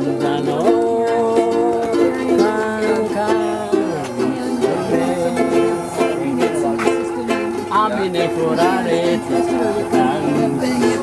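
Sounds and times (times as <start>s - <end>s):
ukuleles strumming a tune: 0.0s - 11.0s.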